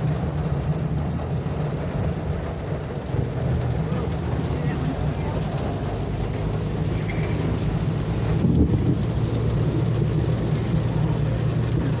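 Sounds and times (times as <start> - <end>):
car driving rumble: 0.0 - 12.0
rain hissing on car: 0.0 - 12.0.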